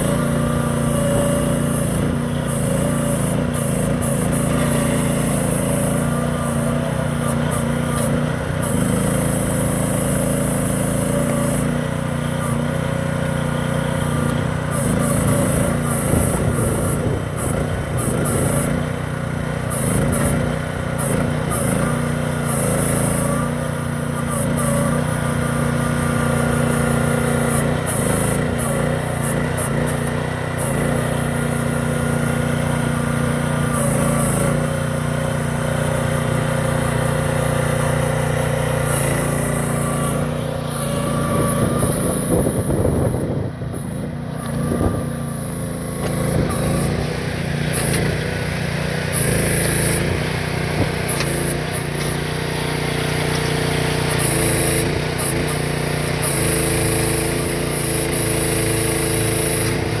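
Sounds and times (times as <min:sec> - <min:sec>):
mini excavator engine running: 0:00.0 - 1:00.0.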